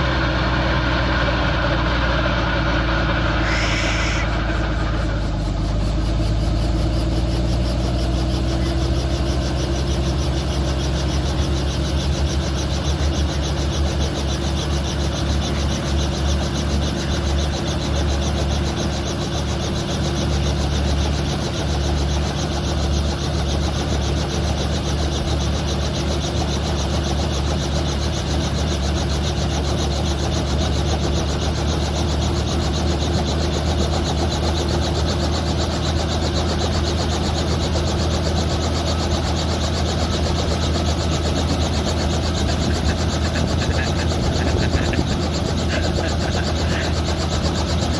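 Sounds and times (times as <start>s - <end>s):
helicopter rotor drone: 0.0s - 47.9s.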